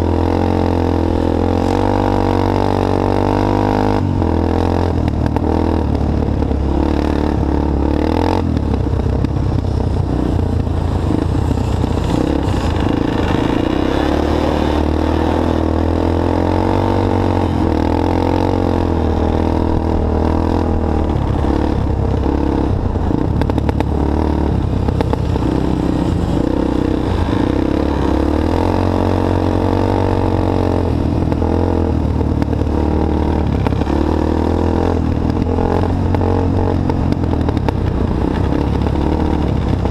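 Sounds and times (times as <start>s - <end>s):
all-terrain vehicle engine running: 0.0s - 39.9s
wind and road noise: 0.0s - 39.9s.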